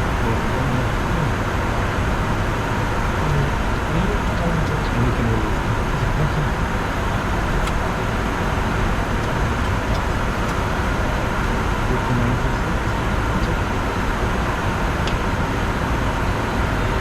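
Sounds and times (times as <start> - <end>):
airflow rushing over cockpit: 0.0 - 17.0
jet engines droning: 0.0 - 17.0.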